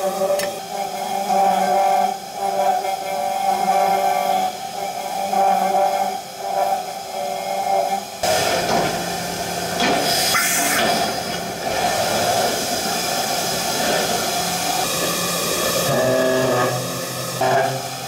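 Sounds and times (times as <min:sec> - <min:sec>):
cutting and coolant spray hiss: 0:00.1 - 0:18.0.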